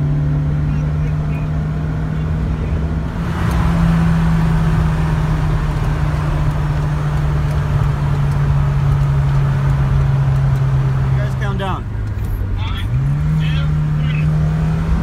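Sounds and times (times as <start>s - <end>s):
car engine drone: 0.0s - 15.0s
road and wind noise: 0.0s - 15.0s.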